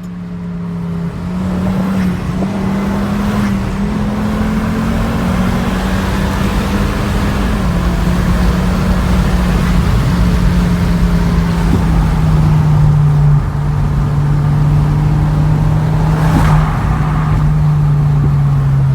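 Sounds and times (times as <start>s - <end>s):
turbocharged car engine droning: 0.0s - 18.9s.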